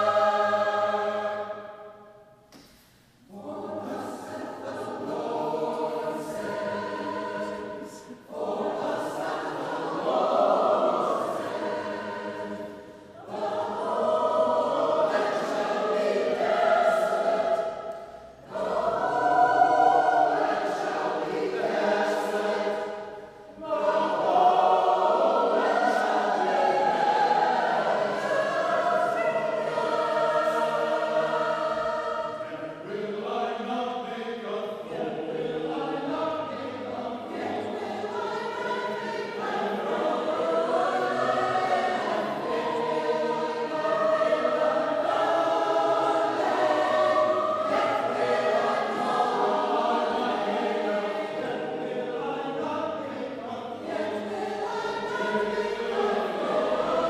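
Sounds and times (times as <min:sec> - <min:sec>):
mixed choir singing: 0:00.0 - 0:02.3, 0:03.2 - 0:57.0.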